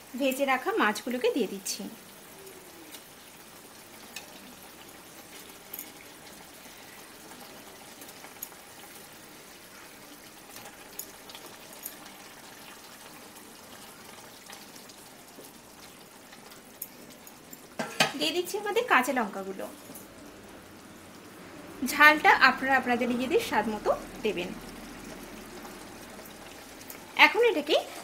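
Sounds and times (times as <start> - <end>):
gravy simmering with pops: 0.0 - 22.4, 23.0 - 28.0.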